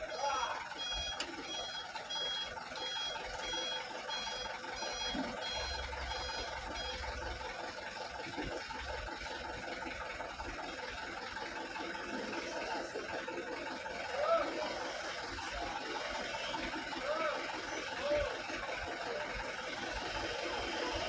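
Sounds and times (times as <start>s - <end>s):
truck engine running: 0.0s - 21.0s
truck reversing beeper: 0.0s - 21.0s.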